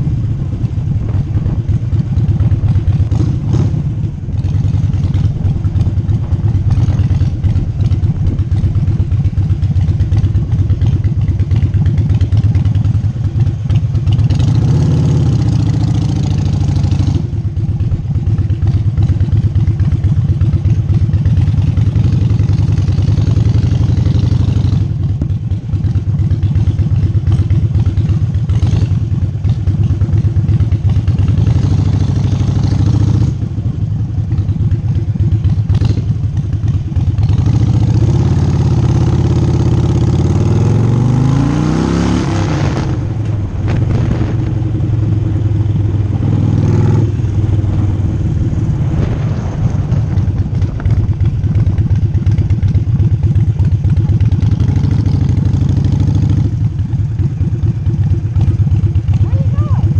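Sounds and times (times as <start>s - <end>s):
motorcycle engine pulsing exhaust: 0.0s - 59.9s.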